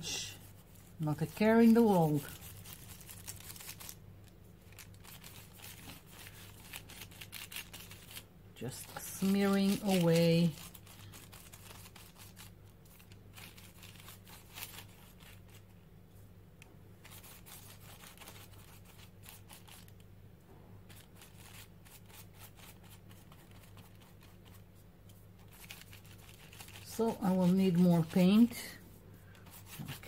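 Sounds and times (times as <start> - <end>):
paintbrush scratching on paper: 0.0 - 4.0, 4.6 - 15.7, 17.0 - 19.9, 20.9 - 30.0.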